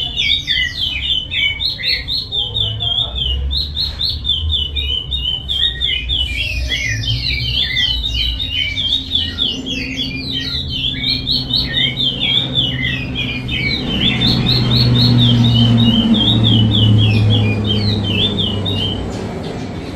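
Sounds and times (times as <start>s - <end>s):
finch singing: 0.0s - 19.9s.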